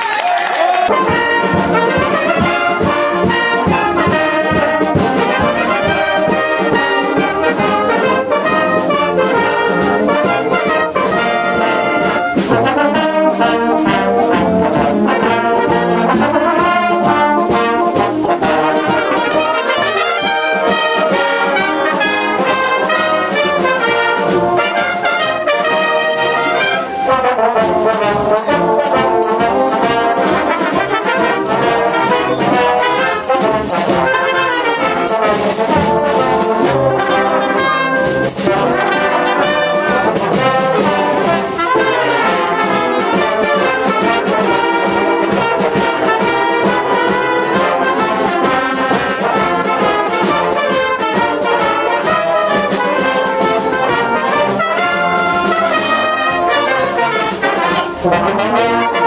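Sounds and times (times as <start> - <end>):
brass ensemble playing: 0.0 - 59.0
trombones sliding in pitch: 0.6 - 59.0.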